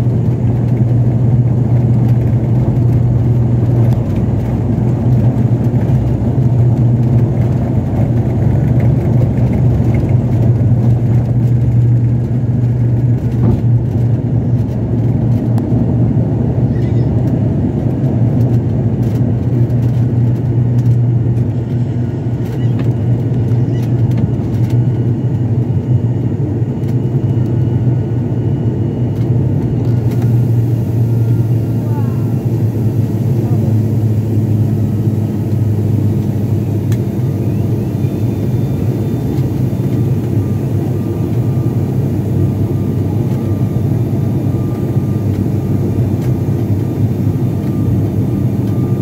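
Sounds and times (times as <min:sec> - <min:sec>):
turboprop engine drone in cabin: 0:00.0 - 0:49.0.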